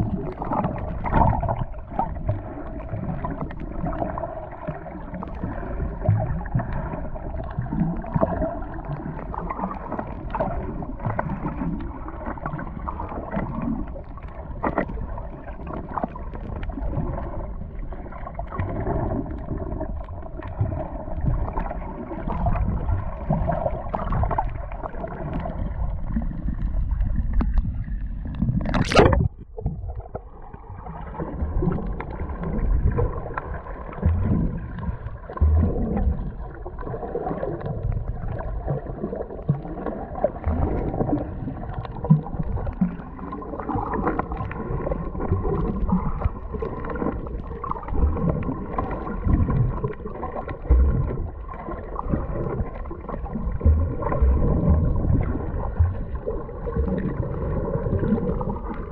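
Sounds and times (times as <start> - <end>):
muffled water gurgling: 0.0 - 58.9.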